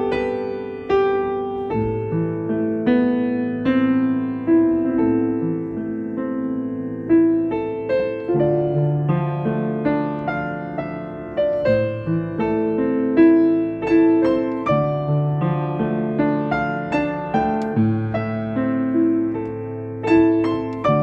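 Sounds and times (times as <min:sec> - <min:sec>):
slow gentle piano piece: 0:00.0 - 0:21.0.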